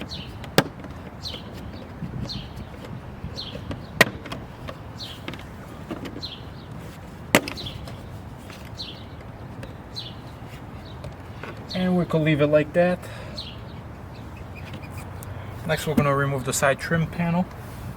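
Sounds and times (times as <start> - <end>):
bird chirping: 0.0 - 16.1.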